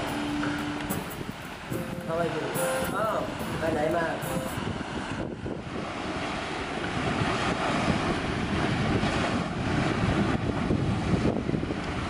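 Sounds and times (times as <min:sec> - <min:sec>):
small waves washing onto sand: 0:00.0 - 0:12.0
wind buffeting microphone: 0:00.0 - 0:12.0.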